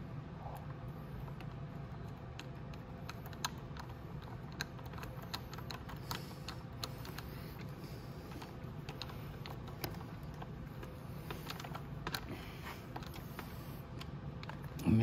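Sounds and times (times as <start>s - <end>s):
steady low hum: 0.0s - 15.0s
hex key metallic clicks: 0.6s - 14.9s.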